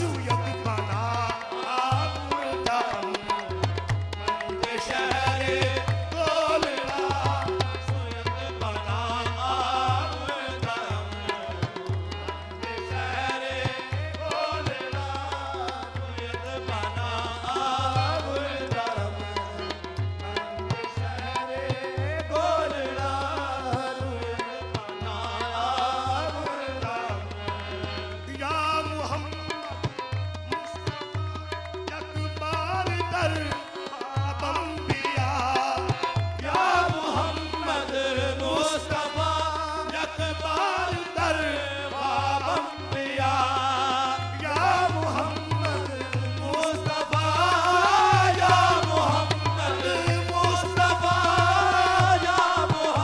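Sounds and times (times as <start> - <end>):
sung vocals: 0.0 - 3.8, 4.5 - 19.9, 20.6 - 29.9, 31.8 - 53.0
tabla beat: 0.0 - 53.0.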